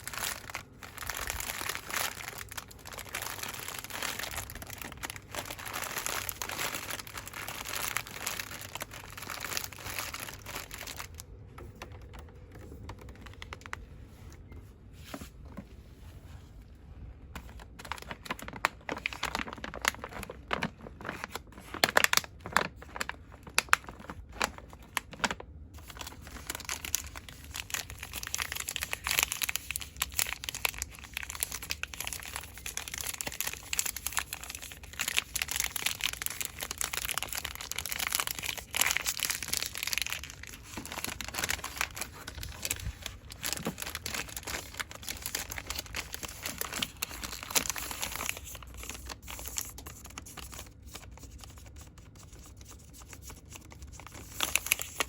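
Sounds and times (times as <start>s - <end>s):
packaging crinkling and rustling: 0.0s - 15.6s, 17.2s - 55.0s.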